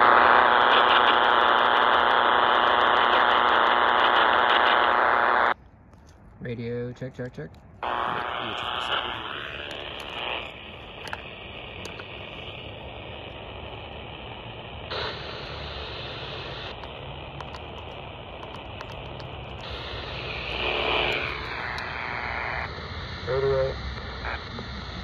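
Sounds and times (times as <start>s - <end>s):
radio static hissing: 0.0s - 5.6s, 7.8s - 25.0s.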